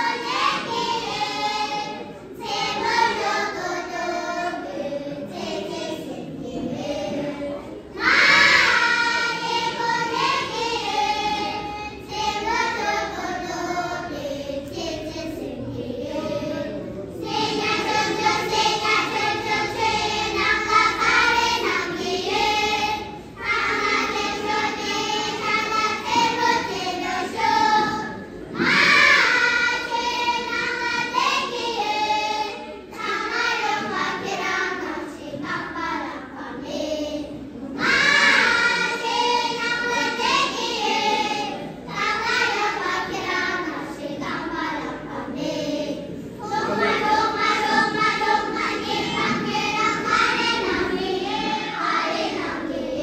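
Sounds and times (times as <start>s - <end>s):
children singing in unison: 0.0s - 53.0s.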